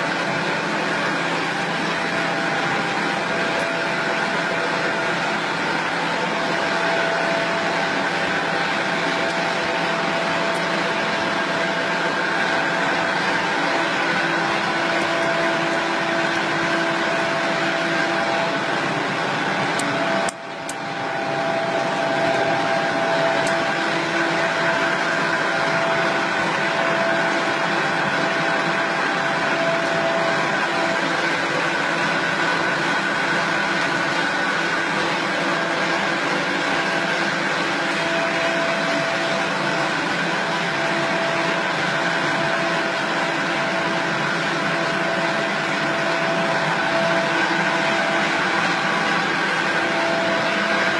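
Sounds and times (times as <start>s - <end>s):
extruder mechanical drone: 0.0s - 50.9s
machine whining tones: 0.0s - 50.9s.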